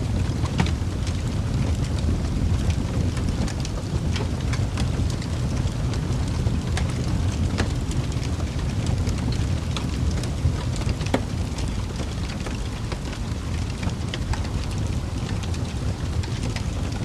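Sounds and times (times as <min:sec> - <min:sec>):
fire flames rumbling: 0:00.0 - 0:17.0
logs popping and crackling: 0:00.0 - 0:17.0.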